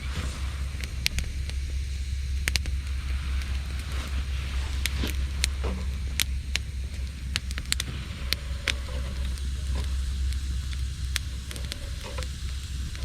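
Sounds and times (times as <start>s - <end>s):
campfire crackling and popping: 0.0s - 13.0s
low rumble: 0.0s - 13.0s.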